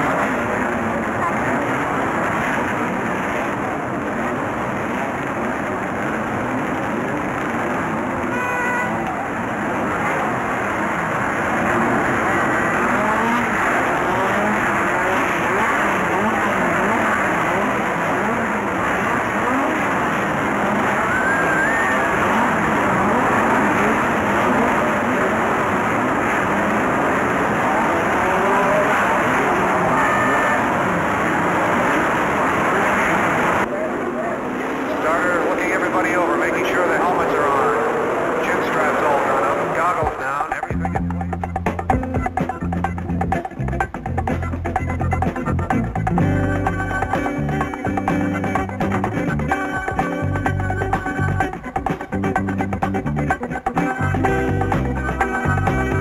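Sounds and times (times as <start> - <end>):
racing car engines running: 0.0 - 56.0.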